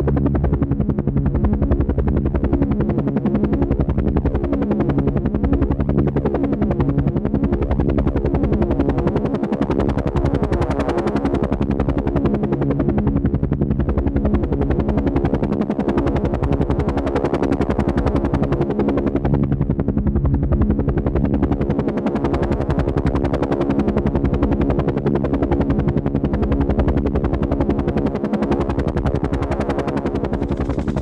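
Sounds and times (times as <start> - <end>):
helicopter engine drone: 0.0 - 31.0
helicopter rotor chop: 0.0 - 31.0.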